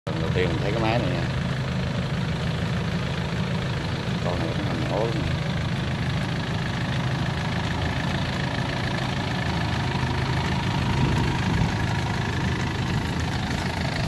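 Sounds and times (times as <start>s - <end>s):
combine harvester engine drone: 0.1s - 14.0s.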